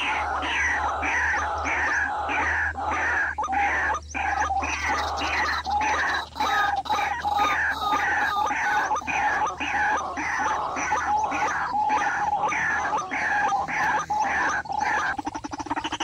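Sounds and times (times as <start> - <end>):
bird croaking calls: 0.0 - 16.0.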